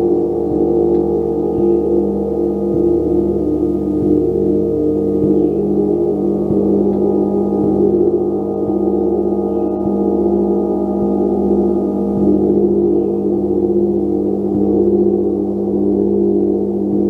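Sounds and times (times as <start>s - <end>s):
gong strokes ringing: 0.0s - 17.0s.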